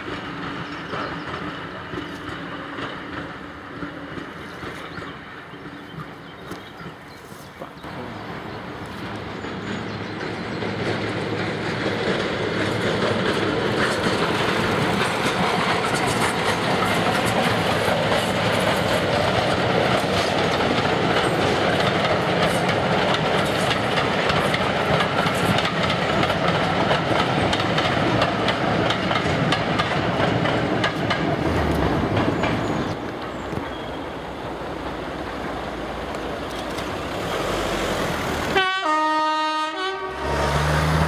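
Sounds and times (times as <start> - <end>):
train wheels clicking over rails: 0.0 - 38.8.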